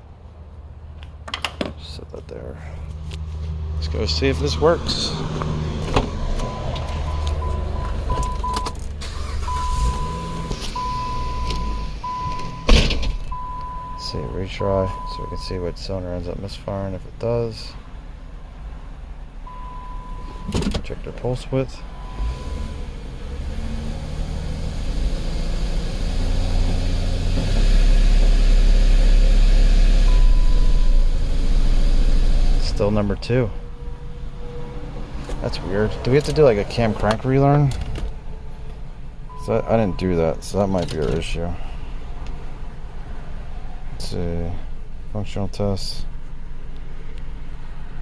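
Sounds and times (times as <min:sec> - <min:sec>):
car engine idling: 0:01.2 - 0:48.0.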